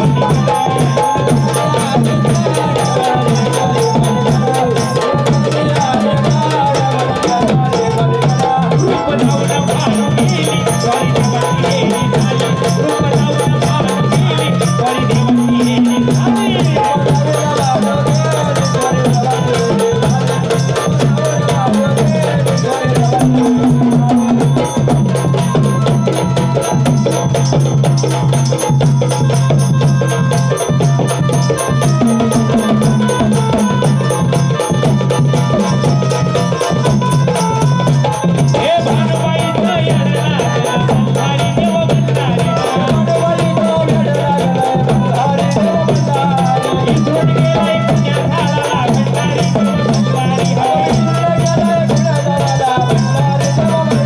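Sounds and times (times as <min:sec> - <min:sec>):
fast hand-drum percussion: 0:00.0 - 0:54.0.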